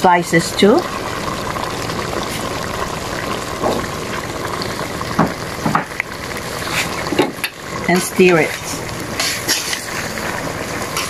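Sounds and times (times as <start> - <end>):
liquid boiling in a pot: 0.0 - 11.0.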